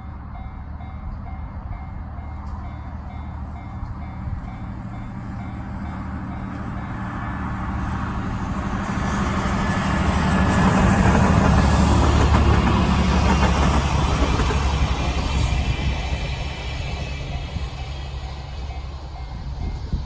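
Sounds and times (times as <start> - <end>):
locomotive engine droning: 0.0 - 20.0
train wheels rumbling on rails: 0.0 - 20.0.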